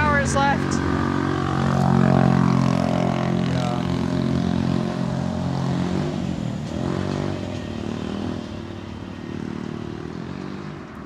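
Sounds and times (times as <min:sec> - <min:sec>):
motor vehicle engine running: 0:00.0 - 0:11.0.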